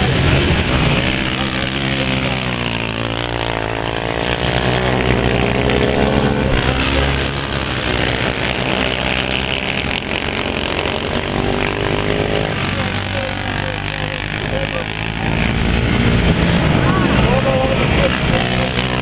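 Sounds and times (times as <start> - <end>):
quad bike engines revving: 0.0 - 19.0.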